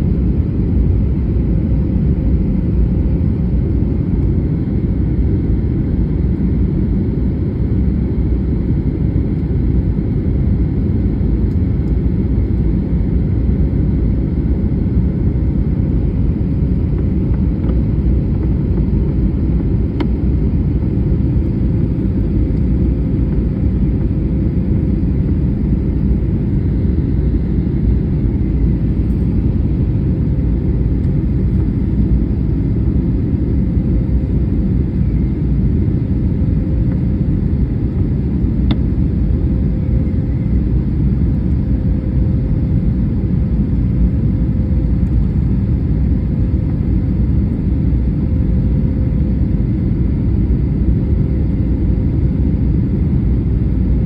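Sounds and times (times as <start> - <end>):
faint steady hum: 0.0 - 54.0
jet engines and airflow rumble: 0.0 - 54.0.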